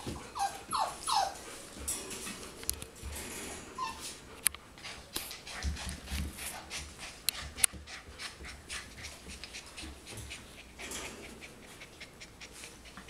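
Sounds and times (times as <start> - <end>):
puppies panting: 0.0 - 13.0.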